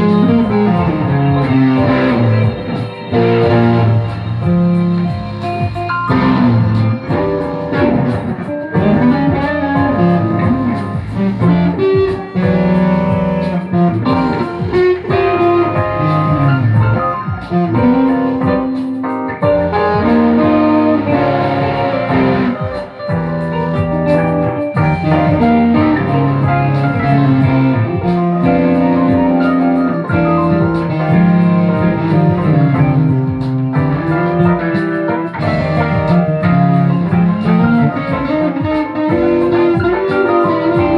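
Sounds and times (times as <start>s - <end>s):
steady low bass line: 0.0s - 18.8s, 19.4s - 40.0s
guitar plucked notes: 0.0s - 40.9s.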